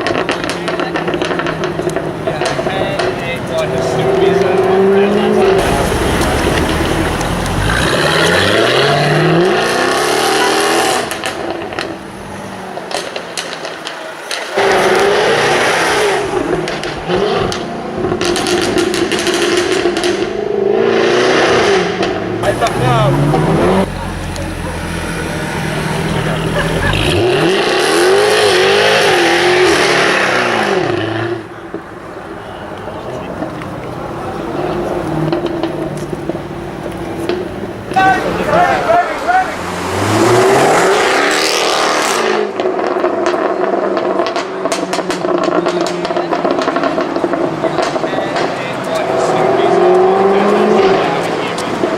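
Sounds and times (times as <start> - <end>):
car engine revving: 0.0 - 51.9
exhaust pops and crackles: 0.0 - 51.9.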